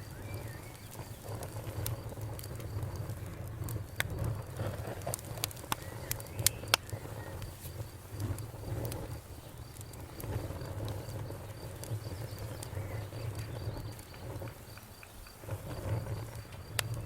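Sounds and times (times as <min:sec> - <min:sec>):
campfire crackling and popping: 0:00.0 - 0:17.0
insect chirping: 0:00.0 - 0:17.0.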